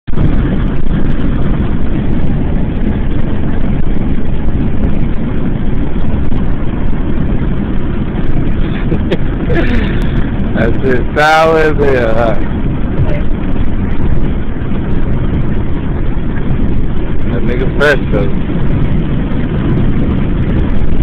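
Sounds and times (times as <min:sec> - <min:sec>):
car rumbling inside cabin: 0:00.0 - 0:21.0.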